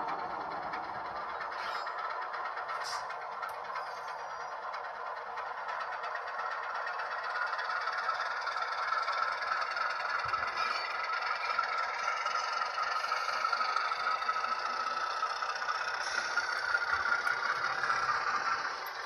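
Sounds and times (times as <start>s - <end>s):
model train rolling on track: 0.0s - 19.0s.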